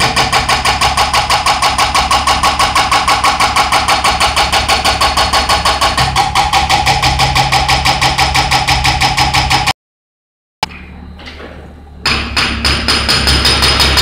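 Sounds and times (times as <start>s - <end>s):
hydraulic breaker pounding concrete: 0.0s - 9.7s, 10.6s - 14.0s.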